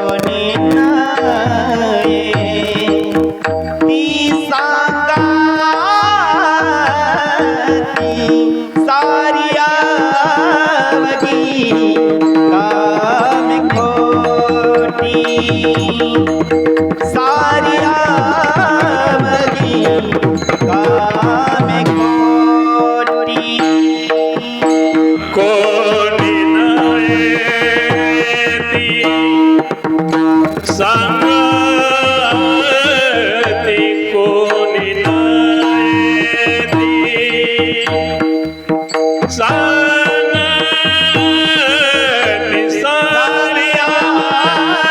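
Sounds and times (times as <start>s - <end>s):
hand drums beating: 0.0s - 44.9s
man singing devotional tune: 0.0s - 44.9s.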